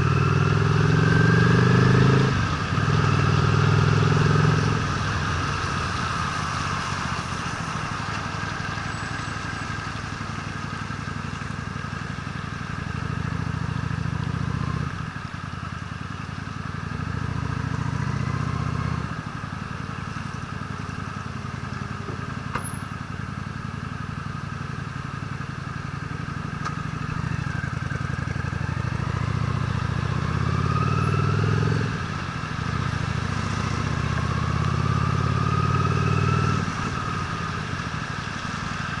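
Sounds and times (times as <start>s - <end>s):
motorcycle engine revving: 0.0s - 8.8s, 10.4s - 15.1s, 16.5s - 19.5s, 23.3s - 39.0s.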